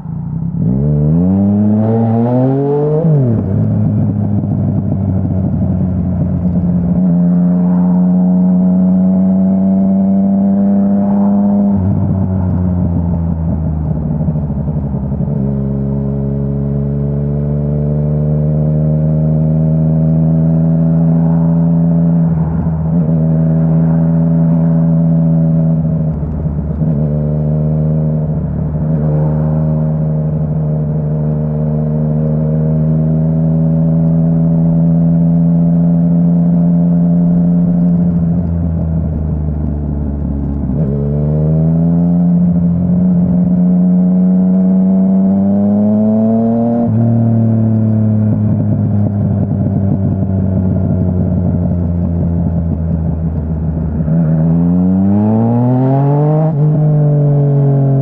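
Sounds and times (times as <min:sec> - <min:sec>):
motorcycle engine revving: 0:00.3 - 0:58.0.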